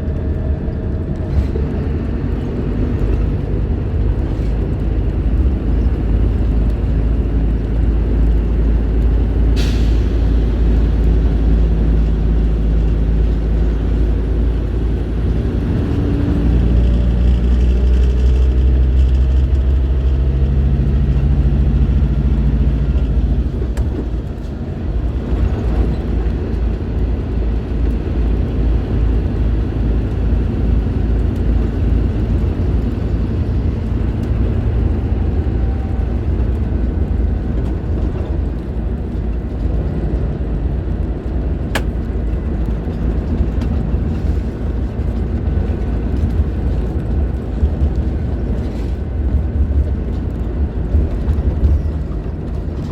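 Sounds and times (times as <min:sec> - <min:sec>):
bus diesel engine running: 0:00.0 - 0:52.9.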